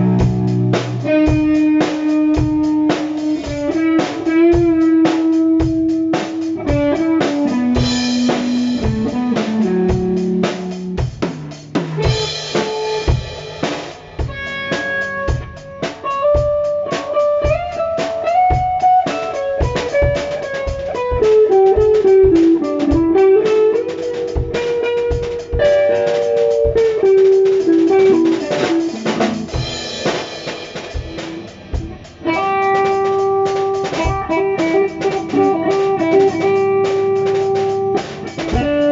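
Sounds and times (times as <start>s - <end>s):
electric guitar melody: 0.0s - 38.9s
rock drum beat: 0.0s - 38.9s.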